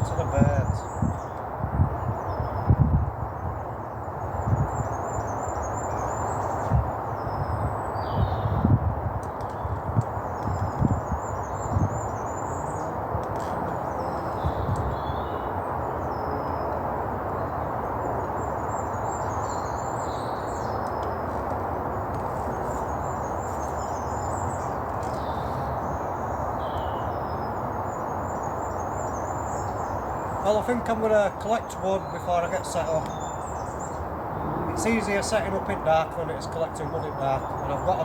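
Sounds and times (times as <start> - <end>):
distant road traffic rumble: 0.0 - 38.0
small birds singing: 0.0 - 38.0.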